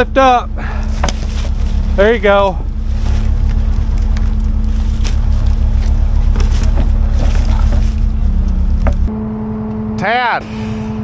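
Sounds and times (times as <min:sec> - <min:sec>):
diesel engine throbbing: 0:00.0 - 0:11.0.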